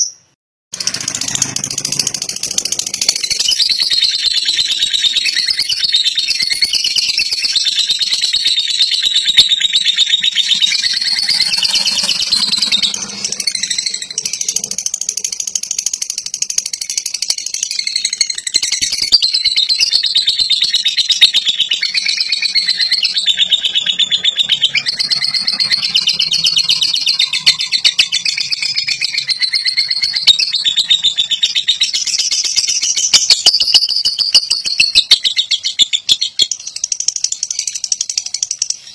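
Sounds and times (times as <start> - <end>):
lovebird rattling chirps: 0.8 - 38.9.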